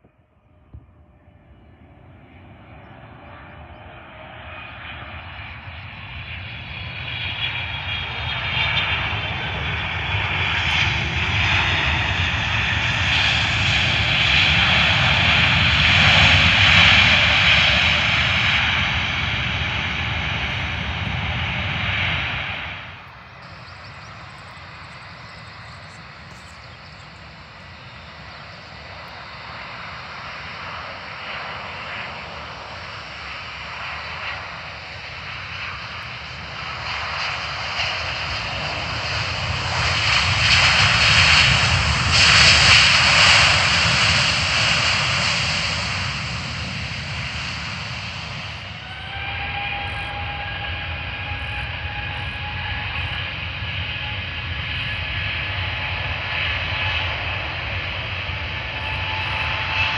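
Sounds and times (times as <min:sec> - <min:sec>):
airliner landing: 0:00.0 - 0:59.9
jet noise on approach: 0:00.0 - 0:59.9.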